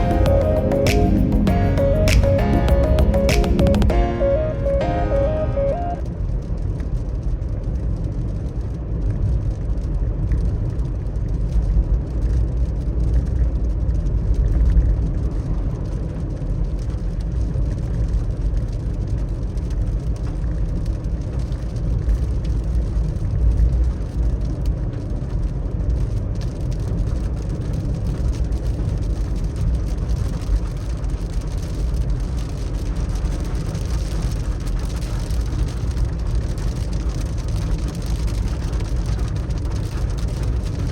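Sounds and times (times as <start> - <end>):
car road and engine rumble: 6.5 - 40.9.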